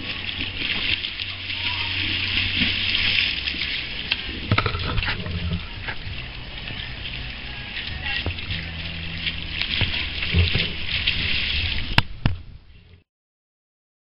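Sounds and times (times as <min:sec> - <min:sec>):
underwater splashing and fizzing: 0:00.0 - 0:12.5.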